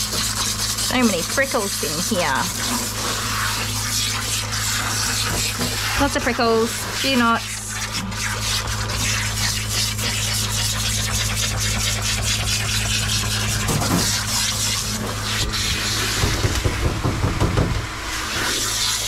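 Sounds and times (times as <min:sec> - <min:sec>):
water spraying from nozzle: 0:00.0 - 0:16.7, 0:18.1 - 0:19.0
pump motor humming: 0:00.0 - 0:19.0.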